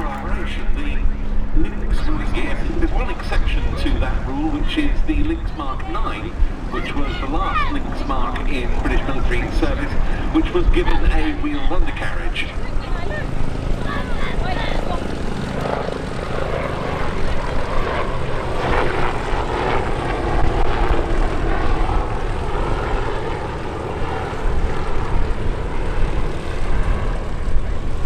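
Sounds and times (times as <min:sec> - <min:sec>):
helicopter rotor rumble: 0:00.0 - 0:28.0.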